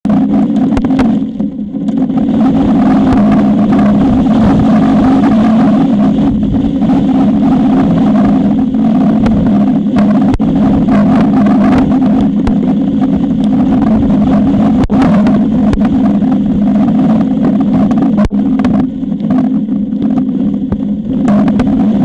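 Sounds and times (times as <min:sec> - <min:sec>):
steady low hum: 0:00.0 - 0:22.0
wind buffeting microphone: 0:00.0 - 0:22.0.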